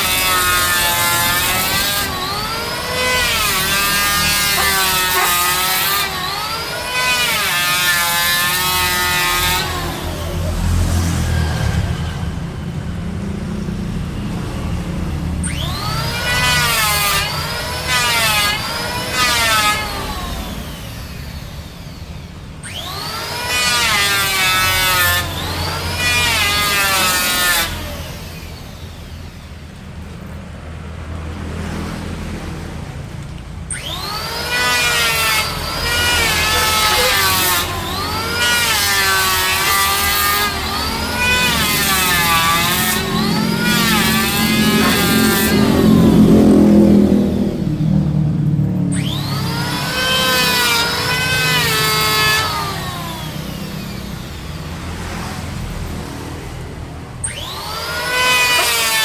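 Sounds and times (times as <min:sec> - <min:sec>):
power tool cutting wood: 0:00.0 - 0:12.7, 0:13.3 - 0:59.0.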